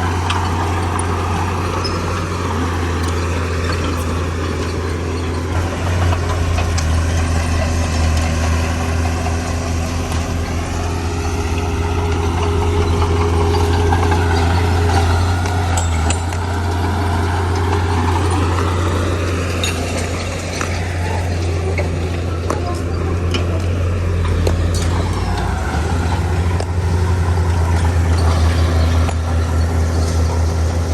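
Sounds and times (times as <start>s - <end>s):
heavy diesel engine hum: 0.0s - 30.9s.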